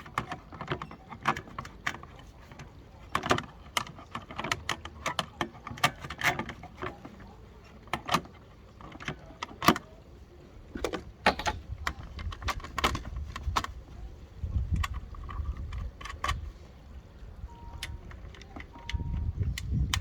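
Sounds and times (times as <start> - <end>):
tools and parts clicking and knocking: 0.0 - 10.0, 10.7 - 16.6, 17.4 - 20.0.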